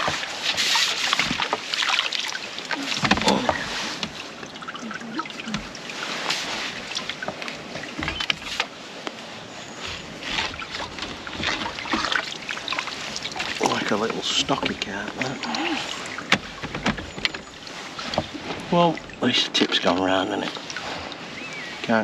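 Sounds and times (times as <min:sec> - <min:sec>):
net and tackle knocks and rustles: 0:00.0 - 0:04.6, 0:05.5 - 0:22.0
water splashing and sloshing: 0:00.0 - 0:22.0.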